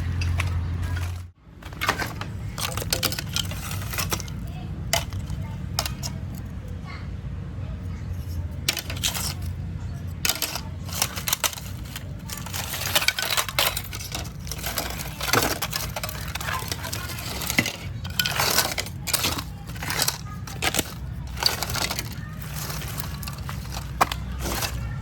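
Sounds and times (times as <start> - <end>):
hand tools tapping and scraping: 0.0 - 7.0, 7.7 - 25.0.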